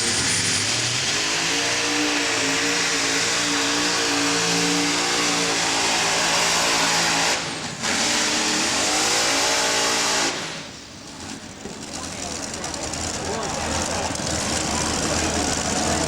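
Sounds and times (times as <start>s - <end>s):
tractor engine at full power: 0.0s - 16.0s.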